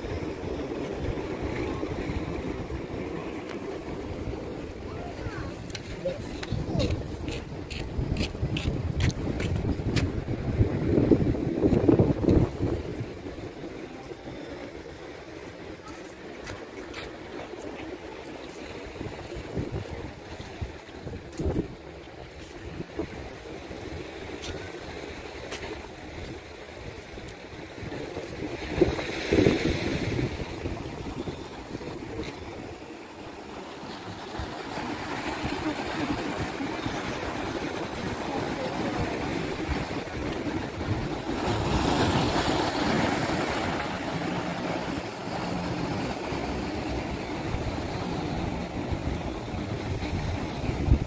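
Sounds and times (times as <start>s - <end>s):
sea waves washing in: 0.0s - 51.0s
wind buffeting microphone: 0.0s - 51.0s.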